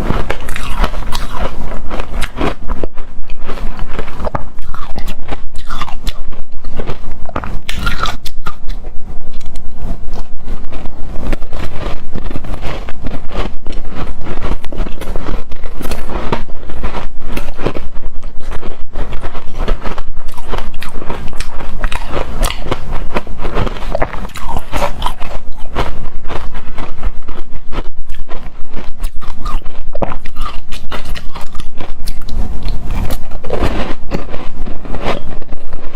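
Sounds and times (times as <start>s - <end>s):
chewing crunchy shaved ice: 0.0s - 9.6s, 11.4s - 35.9s.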